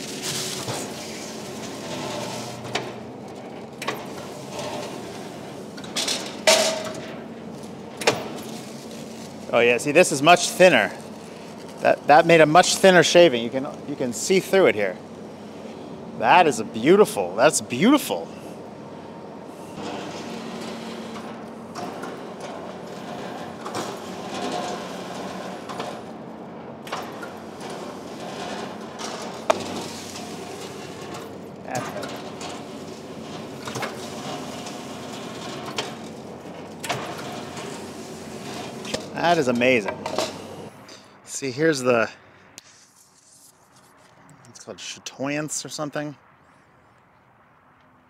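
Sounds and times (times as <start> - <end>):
planing machine humming: 0.0 - 41.1.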